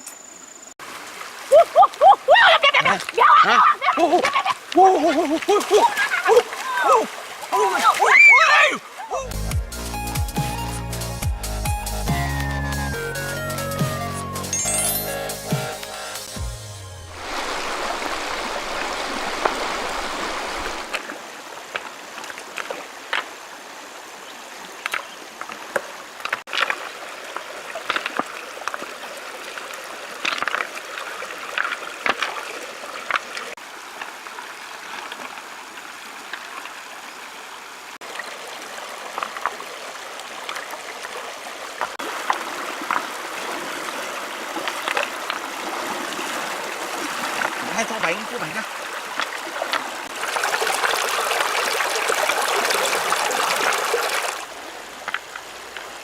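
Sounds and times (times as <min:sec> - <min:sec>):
stream water trickling: 0:00.0 - 0:11.1, 0:17.0 - 0:56.0.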